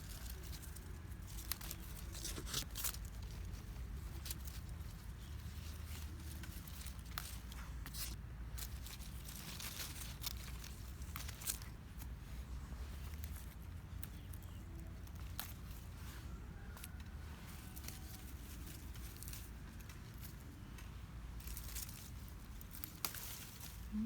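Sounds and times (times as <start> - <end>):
rustling of leaves: 0.0 - 24.0.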